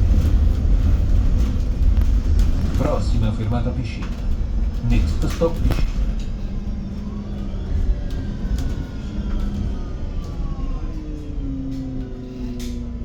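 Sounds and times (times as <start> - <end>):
bus drivetrain rumble: 0.0 - 13.0.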